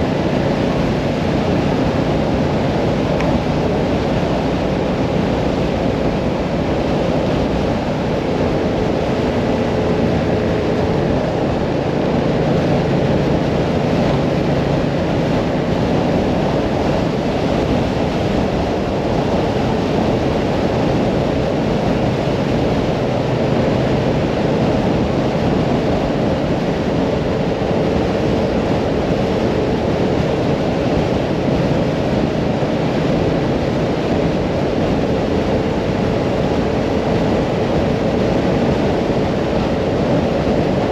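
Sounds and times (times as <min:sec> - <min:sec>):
motorcycle engine cruising: 0:00.0 - 0:40.9
wind noise on microphone: 0:00.0 - 0:40.9.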